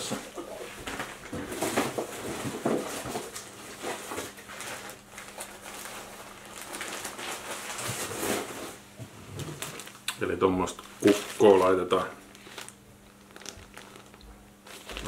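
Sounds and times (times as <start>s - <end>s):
rustling of materials: 0.0s - 15.0s.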